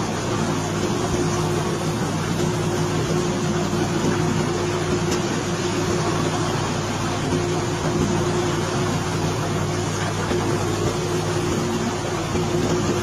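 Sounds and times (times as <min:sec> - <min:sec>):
heavy machinery engine droning: 0:00.0 - 0:13.0.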